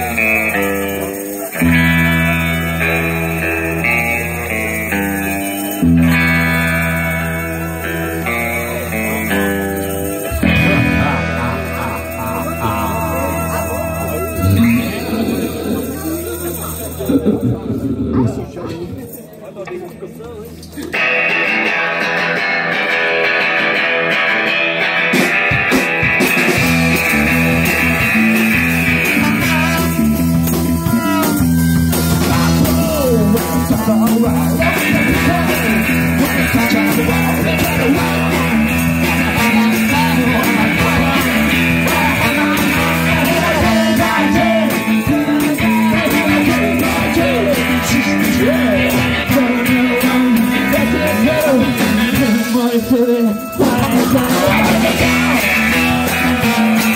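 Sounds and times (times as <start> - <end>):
person singing: 0.0 - 18.3, 25.1 - 56.9
electric bass line: 0.0 - 19.2, 20.8 - 56.9
drums: 0.0 - 56.9
electric guitar: 0.0 - 56.9.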